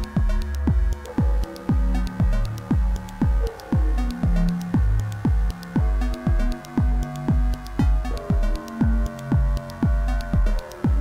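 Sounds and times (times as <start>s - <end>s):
electronic kick drum: 0.0s - 11.0s
held low bass notes: 0.0s - 11.0s.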